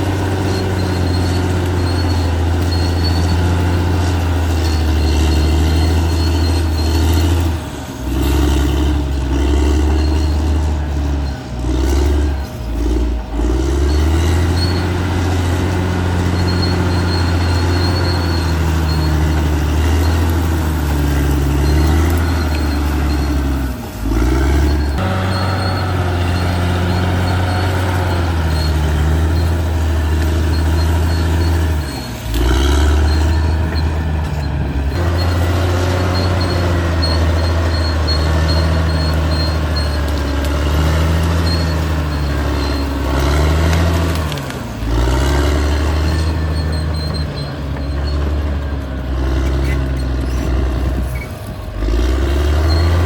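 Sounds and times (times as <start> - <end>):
bulldozer diesel engine under load: 0.0 - 53.0.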